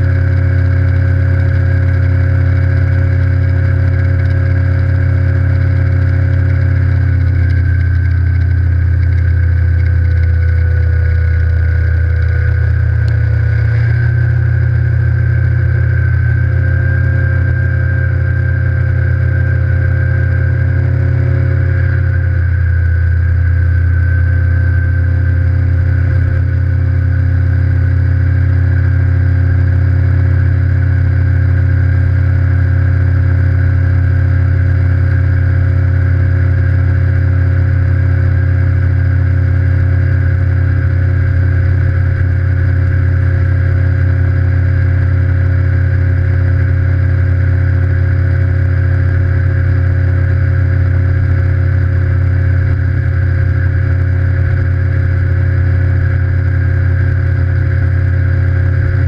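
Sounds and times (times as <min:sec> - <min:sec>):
outboard motor droning: 0:00.0 - 0:59.0.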